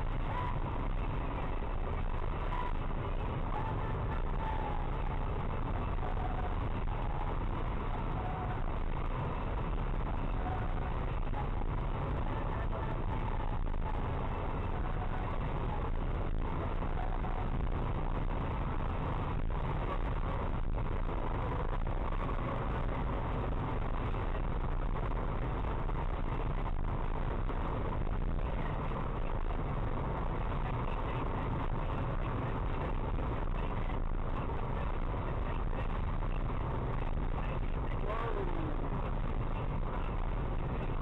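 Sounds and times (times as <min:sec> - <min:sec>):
car cabin road and engine noise: 0:00.0 - 0:41.0.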